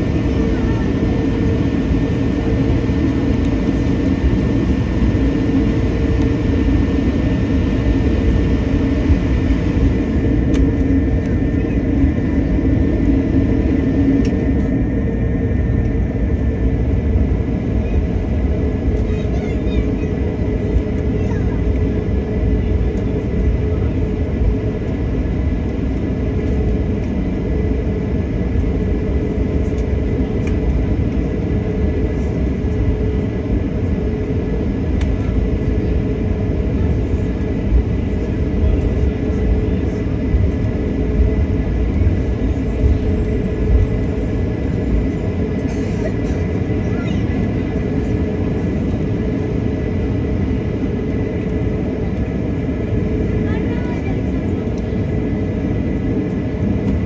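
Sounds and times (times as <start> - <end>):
mid-pitched hum: 0.0 - 57.0.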